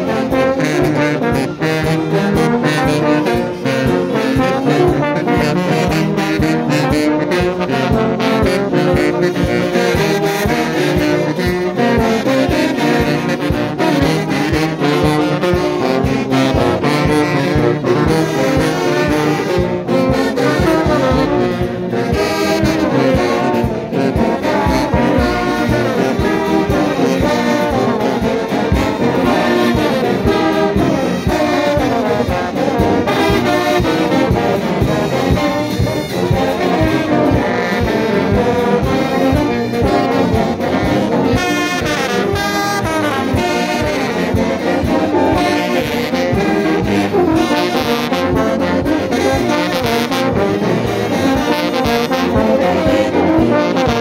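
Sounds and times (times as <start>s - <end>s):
brass band playing: 0.0s - 54.0s
trumpets: 0.0s - 54.0s.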